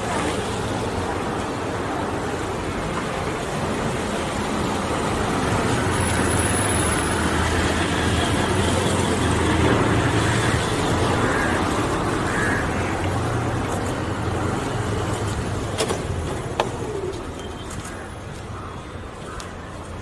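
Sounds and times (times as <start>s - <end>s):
street traffic engines humming: 0.0s - 20.0s.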